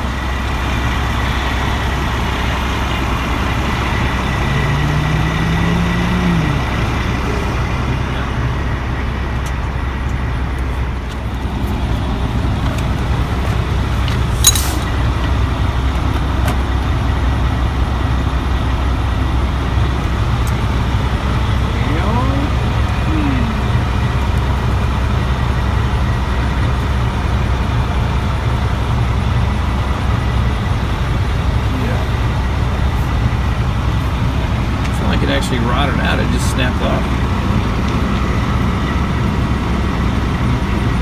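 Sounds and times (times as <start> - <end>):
engine hum rising in pitch: 0.0 - 41.0
rumble of passing vehicles: 0.0 - 41.0.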